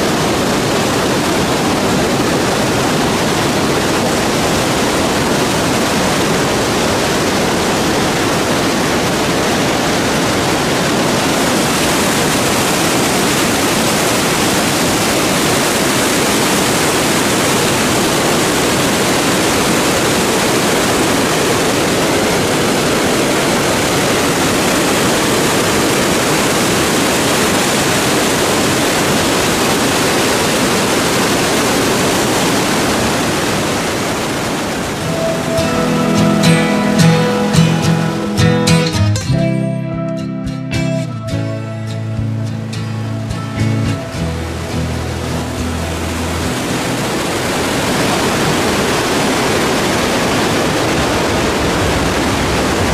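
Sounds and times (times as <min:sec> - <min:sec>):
waterfall rushing: 0:00.0 - 0:39.5, 0:40.2 - 0:52.9.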